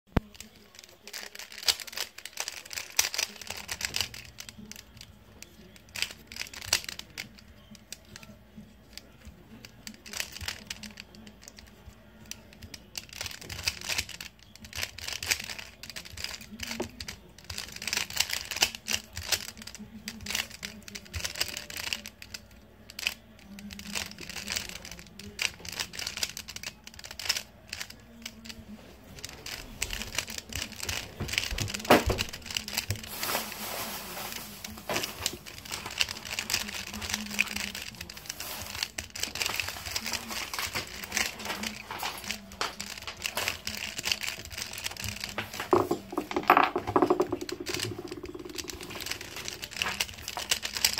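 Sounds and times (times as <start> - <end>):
puzzle cube clicking and rattling: 0.2 - 50.9.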